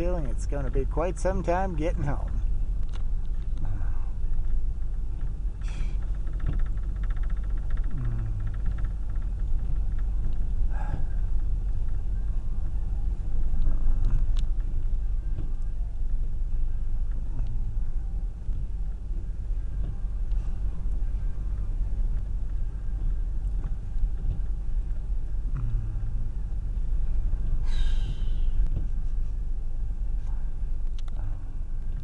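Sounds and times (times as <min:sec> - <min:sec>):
car engine rumble from inside: 0:00.0 - 0:32.0.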